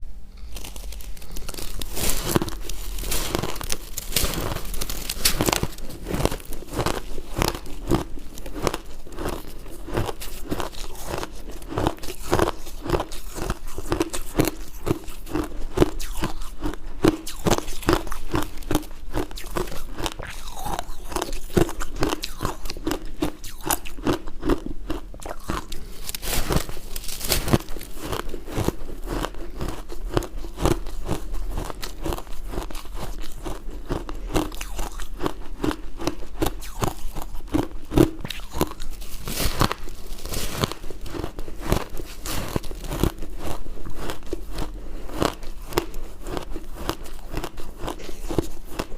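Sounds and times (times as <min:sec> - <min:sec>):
ice crunching between teeth: 0:00.3 - 0:48.9.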